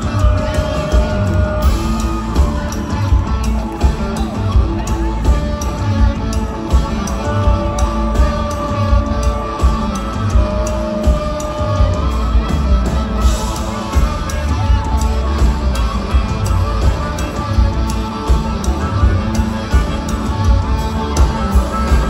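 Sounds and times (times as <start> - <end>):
harmonica notes: 0.0 - 22.0
live rock band playing: 0.0 - 22.0.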